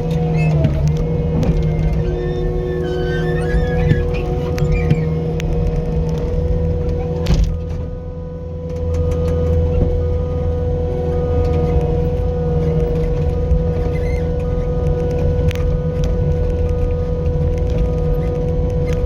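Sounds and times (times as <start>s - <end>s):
loader engine whine and rumble: 0.0s - 19.0s.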